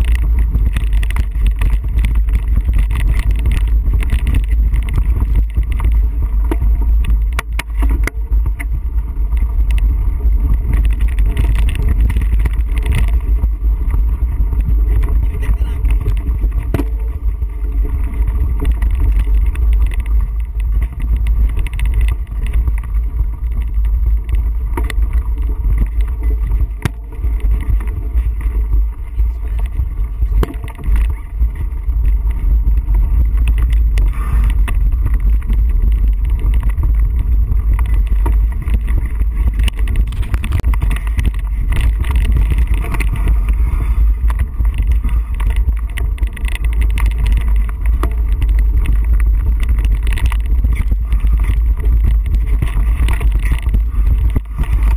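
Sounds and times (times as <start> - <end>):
bike rattling over rough ground: 0.0 - 54.9
wind buffeting microphone: 0.0 - 54.9.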